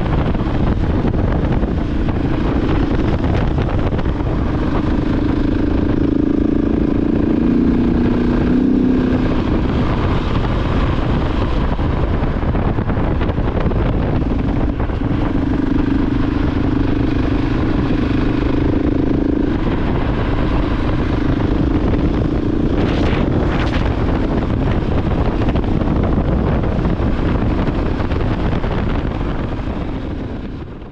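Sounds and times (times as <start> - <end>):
motorcycle engine running: 0.0 - 30.9
wind rush on microphone: 0.0 - 30.9.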